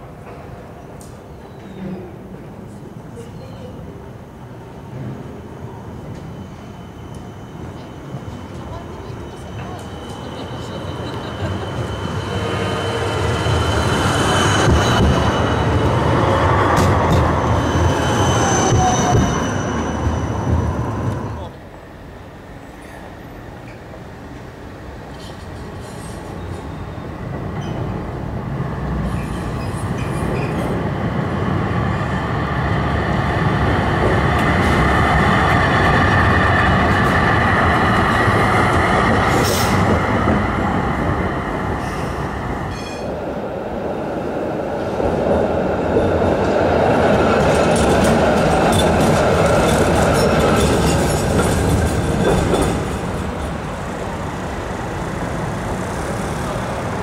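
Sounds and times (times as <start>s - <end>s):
tram rumbling past: 0.0s - 57.0s
tram wheels whining: 0.0s - 57.0s.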